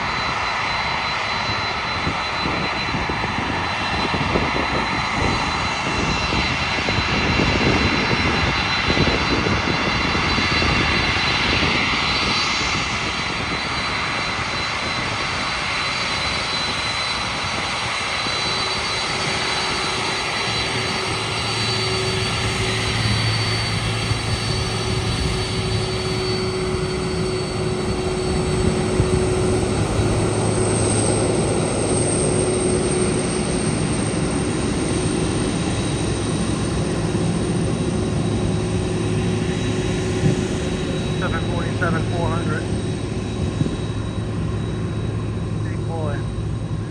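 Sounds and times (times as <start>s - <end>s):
high-pitched engine whines: 0.0s - 46.9s
jet engines rushing: 0.0s - 46.9s.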